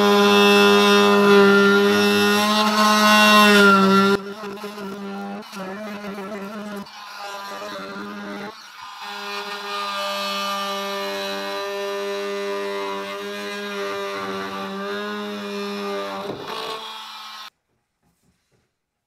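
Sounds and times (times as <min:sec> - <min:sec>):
multi-tool cutting wood: 0:00.0 - 0:17.5.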